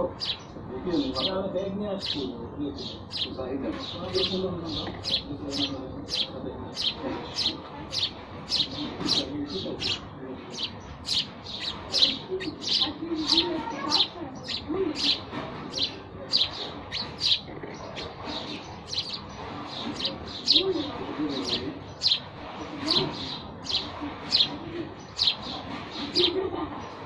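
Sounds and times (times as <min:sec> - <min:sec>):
sparrows chirping: 0:00.0 - 0:27.0.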